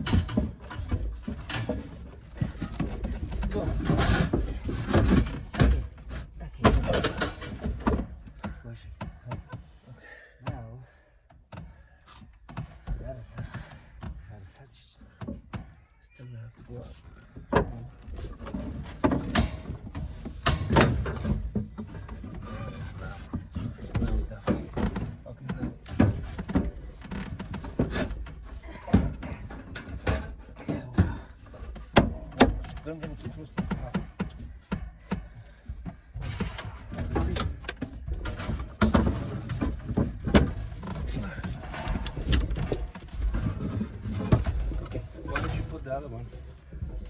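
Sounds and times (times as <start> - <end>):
equipment knocks and bumps: 0.0 - 9.6, 17.1 - 47.0.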